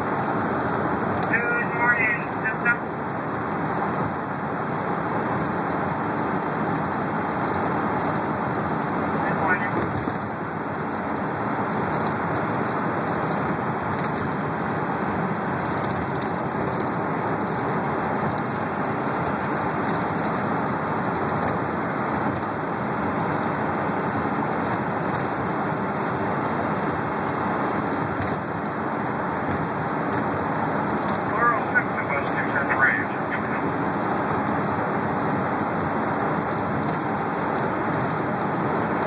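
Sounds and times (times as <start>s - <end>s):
bus engine and road noise: 0.0s - 39.0s.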